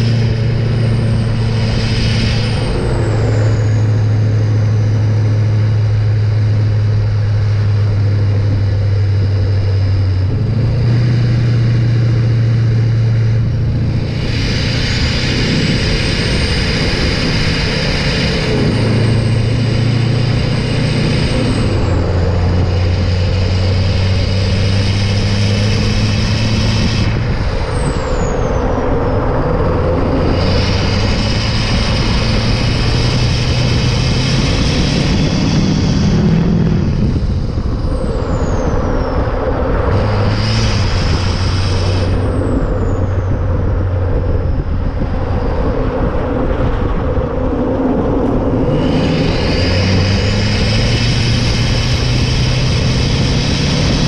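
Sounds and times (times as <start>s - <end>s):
air rushing: 0.0s - 54.0s
diesel engine exhaust drone: 0.0s - 54.0s
high turbo whine: 0.0s - 54.0s.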